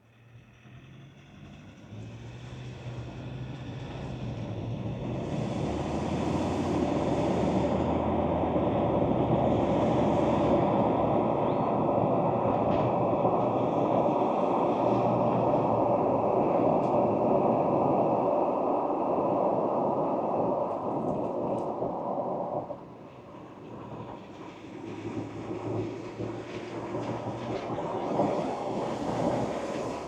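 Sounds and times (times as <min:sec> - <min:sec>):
pickup truck engine: 0:00.0 - 0:30.0
tyre and road noise: 0:00.2 - 0:30.0.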